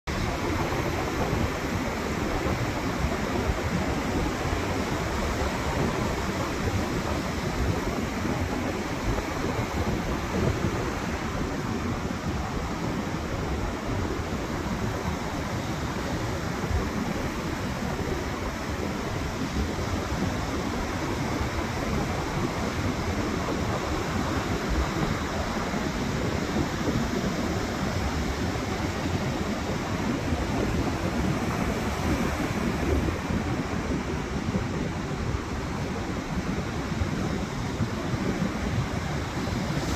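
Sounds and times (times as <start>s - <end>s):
wind buffeting microphone: 0.1s - 39.9s
sea surf breaking: 0.3s - 39.9s.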